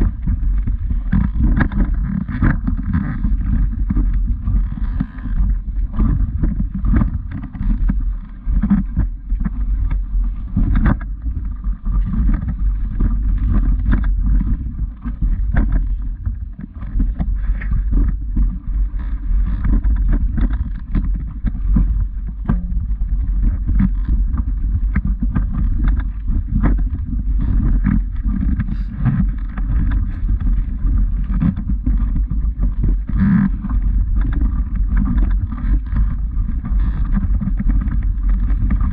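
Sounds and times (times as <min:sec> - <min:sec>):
microphone handling noise: 0:00.0 - 0:38.9
wind rumble: 0:00.0 - 0:38.9.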